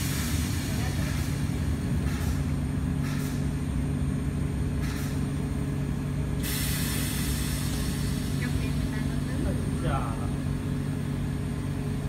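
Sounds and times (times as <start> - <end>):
ozone generator humming: 0.0 - 12.0.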